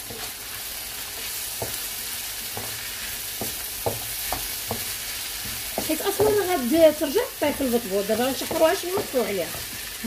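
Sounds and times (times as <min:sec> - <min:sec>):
vegetables sizzling in a frying pan: 0:00.0 - 0:10.0
wooden spoon striking a pan: 0:01.1 - 0:09.9.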